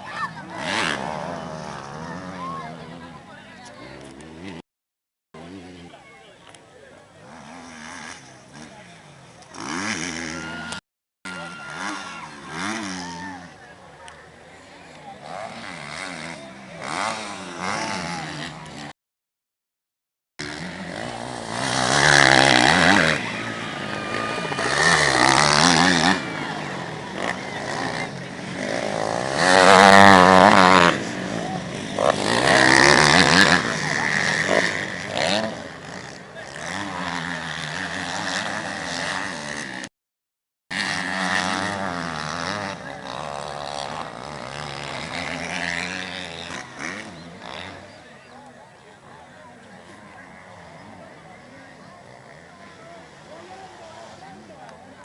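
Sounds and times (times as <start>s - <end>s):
motocross bike engines revving: 0.0s - 4.6s, 5.4s - 19.0s, 20.4s - 39.9s, 40.7s - 55.0s.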